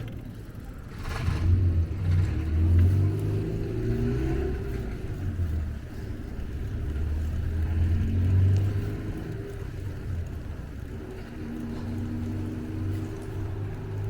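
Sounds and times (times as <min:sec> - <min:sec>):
car passing: 0:00.7 - 0:14.0.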